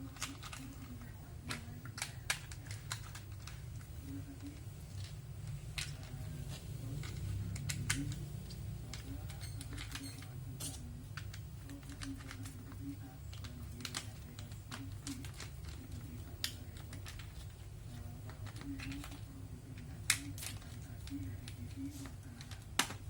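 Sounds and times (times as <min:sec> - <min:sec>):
plastic pieces clicking and tapping: 0:00.0 - 0:23.0.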